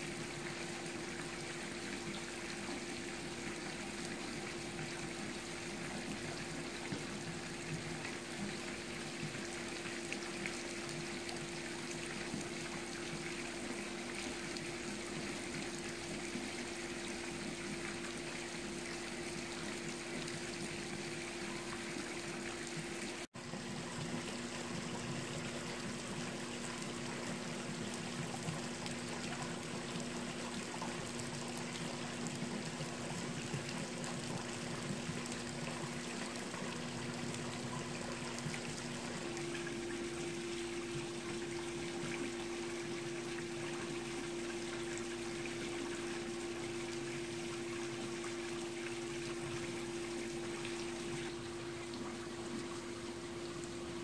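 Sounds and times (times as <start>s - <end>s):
water splashing into pool: 0.0s - 54.0s.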